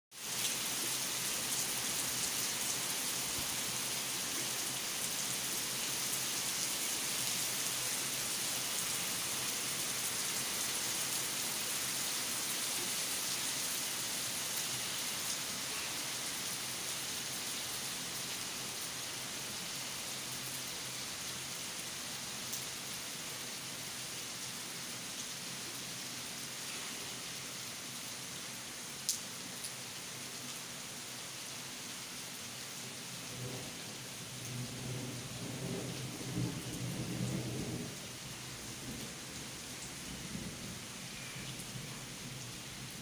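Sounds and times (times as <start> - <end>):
rain on concrete rooftop: 0.1 - 43.0.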